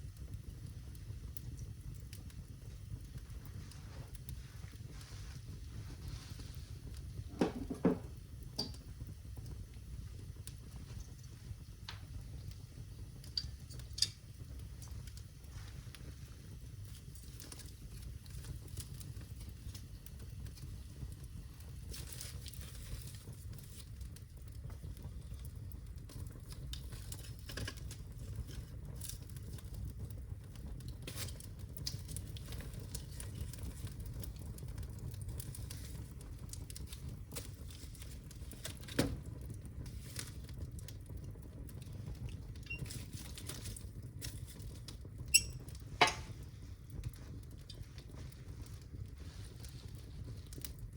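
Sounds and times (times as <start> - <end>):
fire crackling and popping: 0.0 - 50.9
low rumble of flame: 0.0 - 50.9.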